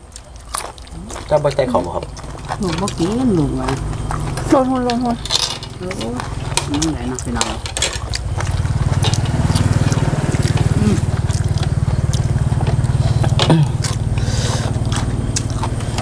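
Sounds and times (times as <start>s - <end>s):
people eating seafood crunching: 0.0s - 16.0s
steady low rumble: 0.0s - 16.0s.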